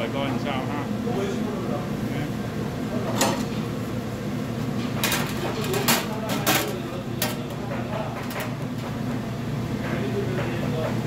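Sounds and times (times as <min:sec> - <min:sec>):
kitchen ventilation drone: 0:00.0 - 0:11.0.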